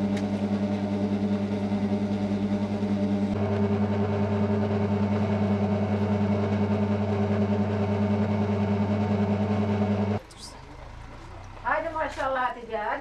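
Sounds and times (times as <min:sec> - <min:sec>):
mixer motor hum: 0:00.0 - 0:11.7.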